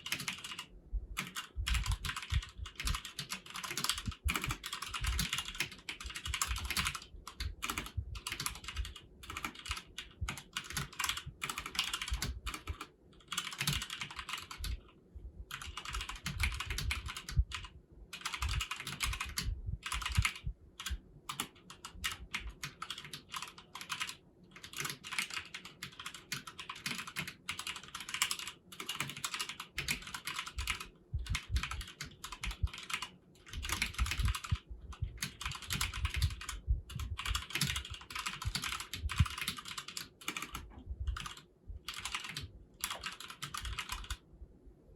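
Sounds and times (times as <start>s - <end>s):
fast typing on mechanical keyboard: 0.0s - 14.9s, 15.5s - 44.2s.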